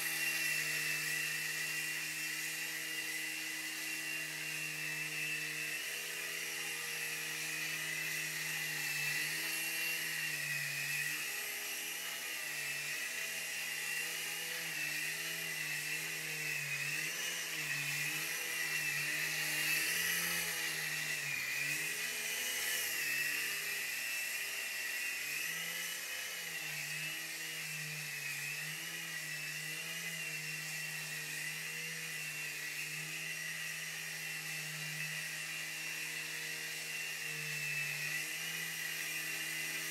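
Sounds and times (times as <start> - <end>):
small electric motors whining: 0.0 - 39.9.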